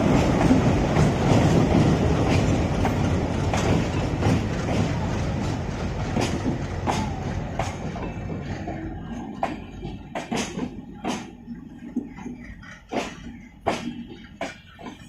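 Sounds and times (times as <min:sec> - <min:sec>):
train rumble: 0:00.0 - 0:15.0
train wheels clattering over rail joints: 0:00.0 - 0:15.0.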